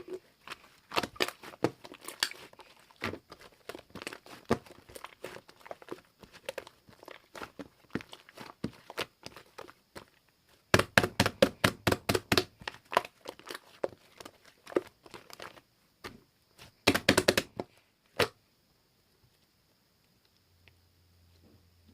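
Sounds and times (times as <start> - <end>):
slime squished by hand crackling: 0.0 - 17.6.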